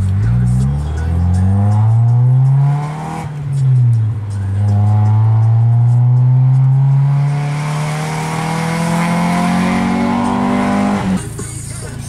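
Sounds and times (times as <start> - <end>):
car engine accelerating loudly: 0.0 - 11.4.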